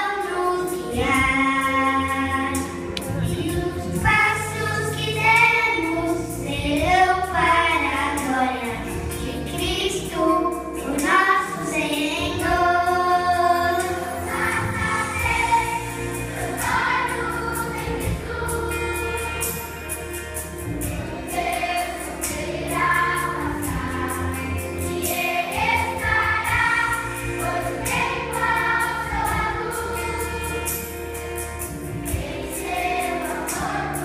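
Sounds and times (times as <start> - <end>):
children's choir singing: 0.0 - 8.8, 9.8 - 31.4, 32.0 - 34.0
instrumental backing with bass: 0.0 - 34.0.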